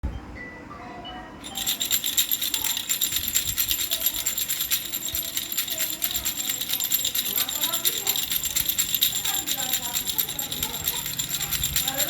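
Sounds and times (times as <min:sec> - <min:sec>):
baby rattle toy jingling: 0:01.4 - 0:12.0.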